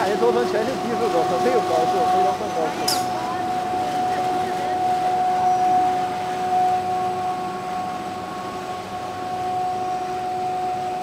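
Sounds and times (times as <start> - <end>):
high-pitched whine: 0.0 - 11.0
machine noise: 0.0 - 11.0.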